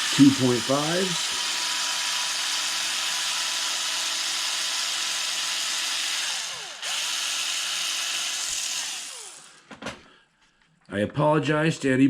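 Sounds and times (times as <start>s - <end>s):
power drill spinning: 0.0s - 10.0s.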